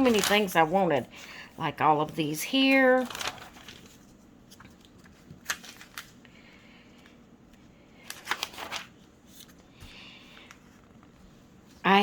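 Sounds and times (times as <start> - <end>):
paper pages rustling: 0.0 - 0.8, 2.1 - 6.3, 6.9 - 12.0.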